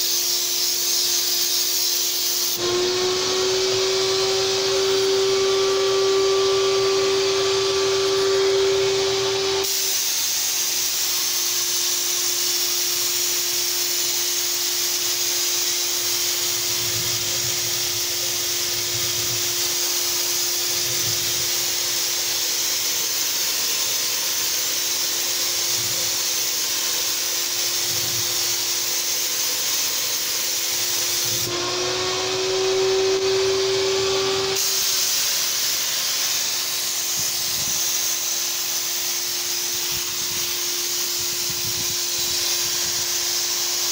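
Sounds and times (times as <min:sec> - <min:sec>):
paint sprayer turbine hum: 0:00.0 - 0:43.9
spray gun hissing: 0:00.0 - 0:43.9.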